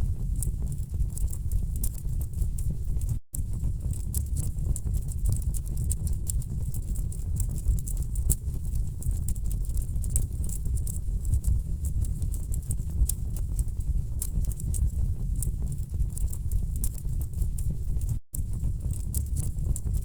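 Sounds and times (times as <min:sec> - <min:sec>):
low fire rumble: 0:00.0 - 0:20.0.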